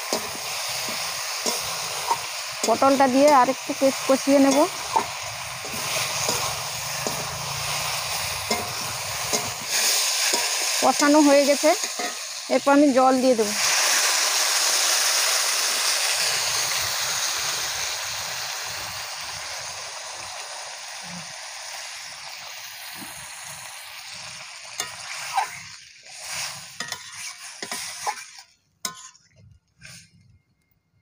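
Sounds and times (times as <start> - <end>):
water sizzling in hot oil: 0.0 - 29.2.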